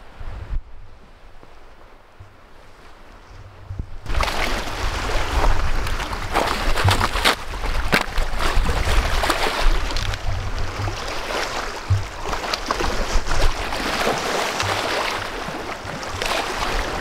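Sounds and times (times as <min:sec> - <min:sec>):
wind on microphone: 0:00.0 - 0:17.0
waves lapping against rocks: 0:01.0 - 0:17.0.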